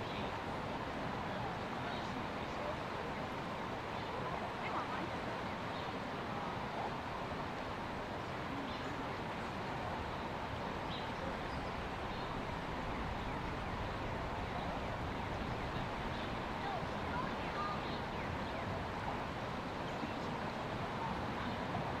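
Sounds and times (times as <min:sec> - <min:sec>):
constant hiss and low rumble: 0:00.0 - 0:22.0.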